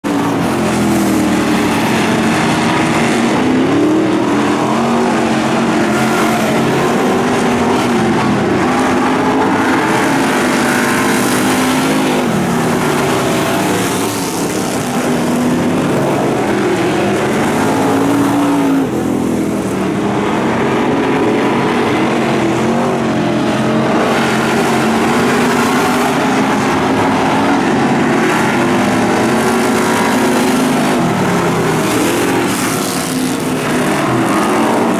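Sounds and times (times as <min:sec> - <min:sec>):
race car engines accelerating: 0:00.0 - 0:34.9.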